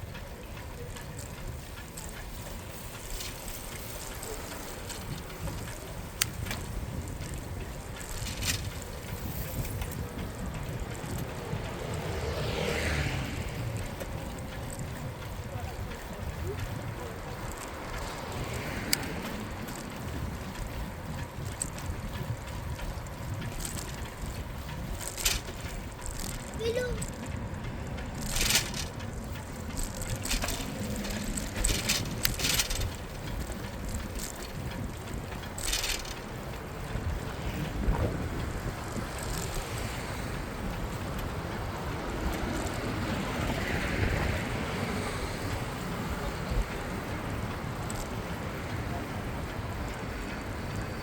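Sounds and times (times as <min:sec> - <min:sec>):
low traffic rumble: 0:00.0 - 0:51.0
wind on microphone: 0:03.6 - 0:51.0.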